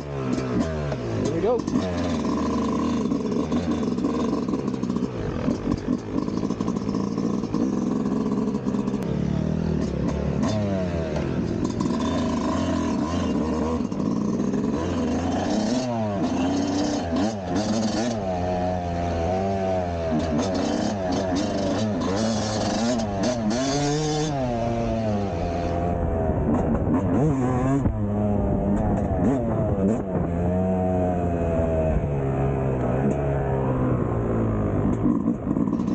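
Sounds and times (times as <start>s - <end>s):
dirt bike engine at part throttle: 0.0s - 35.9s.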